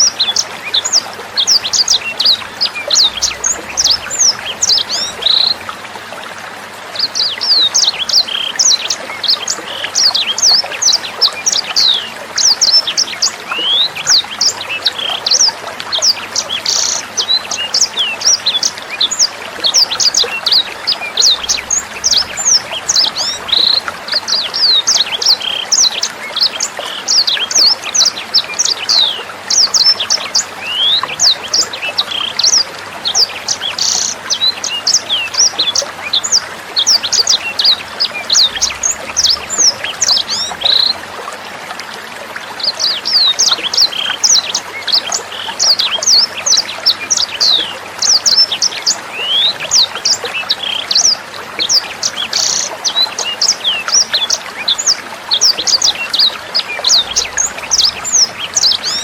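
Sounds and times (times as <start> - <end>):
trickling water: 0.0 - 59.0
bird singing high chirps: 7.1 - 41.0, 42.8 - 59.0.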